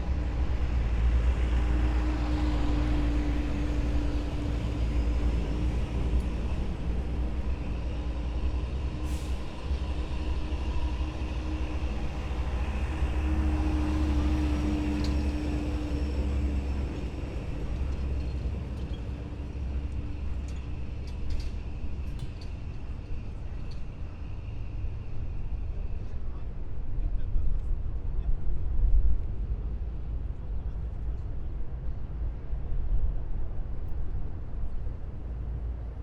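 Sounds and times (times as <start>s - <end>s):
heavy vehicle engines rumbling: 0.0s - 36.0s.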